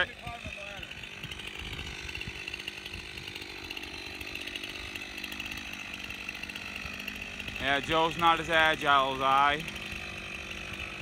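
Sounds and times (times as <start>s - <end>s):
chainsaw idling: 0.0s - 11.0s.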